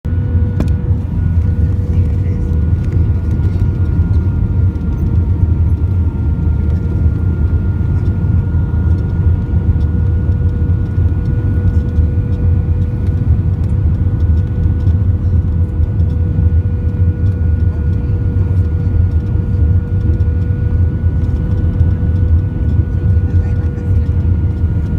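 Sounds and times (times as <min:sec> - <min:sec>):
constant whine: 0:00.1 - 0:24.9
vehicle rumbling in motion: 0:00.1 - 0:24.9.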